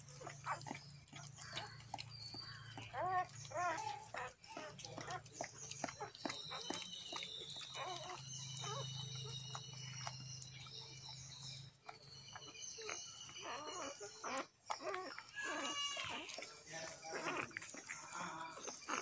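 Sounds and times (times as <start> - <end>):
dog licking and snuffling: 0.0 - 19.0
puppies squeaking: 0.0 - 19.0.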